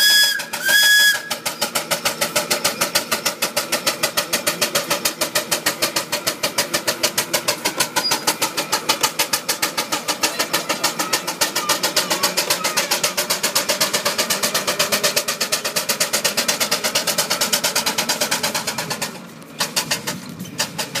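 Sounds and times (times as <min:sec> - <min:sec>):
steam engine exhaust chuffing: 0:00.0 - 0:21.0.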